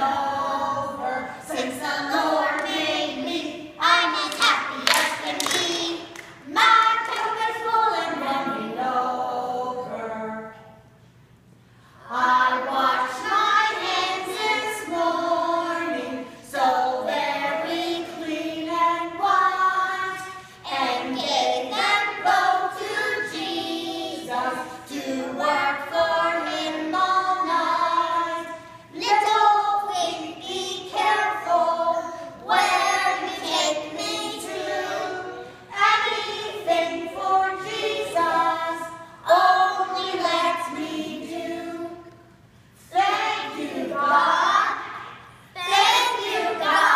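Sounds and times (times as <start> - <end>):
children singing: 0.0 - 10.4, 12.1 - 42.1, 42.9 - 46.9.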